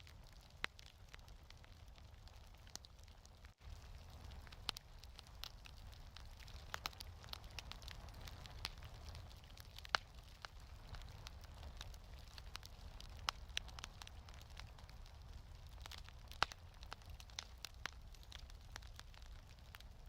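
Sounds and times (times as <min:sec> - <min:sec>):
low fire rumble: 0:00.0 - 0:20.0
wood fire crackling: 0:00.0 - 0:20.0.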